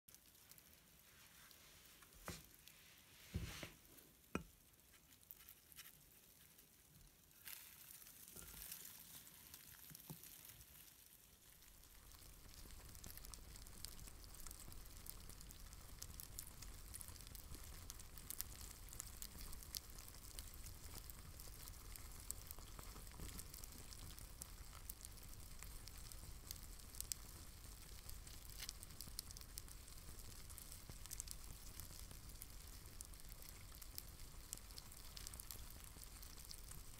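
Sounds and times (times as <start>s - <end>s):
crackling hiss: 0.1s - 36.9s.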